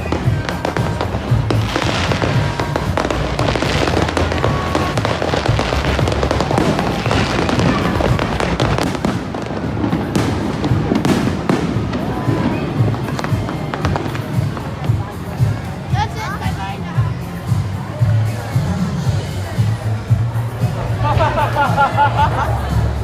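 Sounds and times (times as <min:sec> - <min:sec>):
background music: 0:00.0 - 0:23.0
fireworks popping and crackling: 0:00.0 - 0:23.0.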